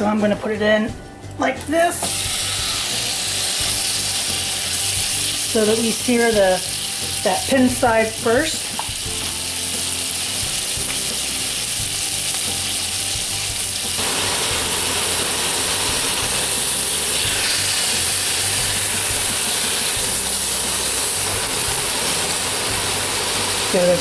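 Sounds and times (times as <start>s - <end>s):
meat sizzling in a pot: 1.9s - 24.0s.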